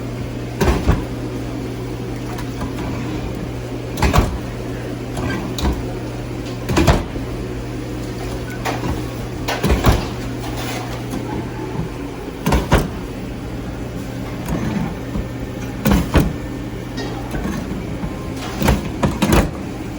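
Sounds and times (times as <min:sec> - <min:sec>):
low machine hum: 0:00.0 - 0:19.9.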